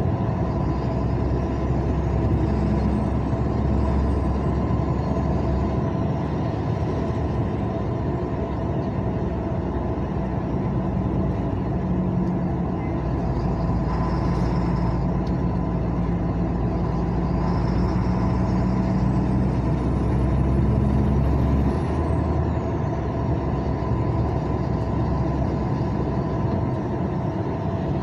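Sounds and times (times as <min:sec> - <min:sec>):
road noise: 0:00.0 - 0:28.0
vehicle engine drone: 0:00.0 - 0:28.0.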